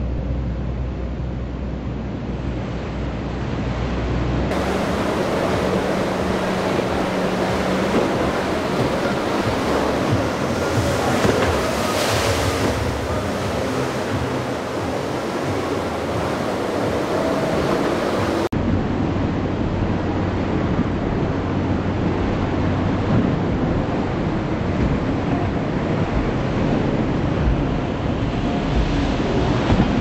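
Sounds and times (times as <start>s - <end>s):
outboard engine running: 0.0s - 30.0s
wind buffeting microphone: 1.6s - 30.0s
surf breaking: 3.6s - 30.0s.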